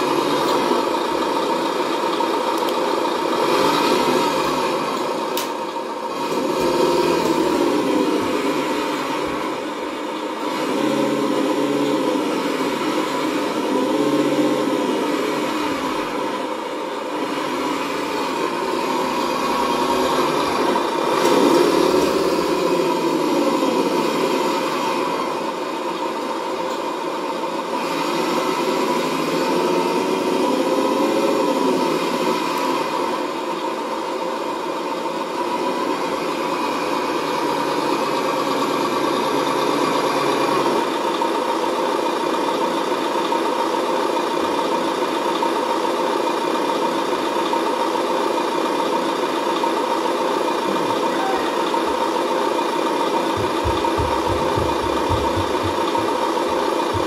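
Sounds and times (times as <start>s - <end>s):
toy truck motor humming: 0.0s - 57.0s.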